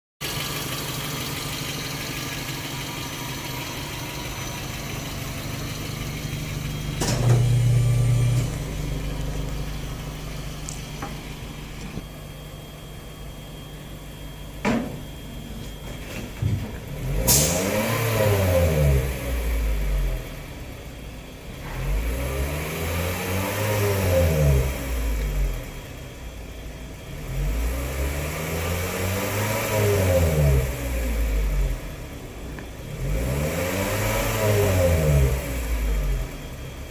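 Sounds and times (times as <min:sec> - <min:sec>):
van engine idling and revving: 0:00.2 - 0:36.9.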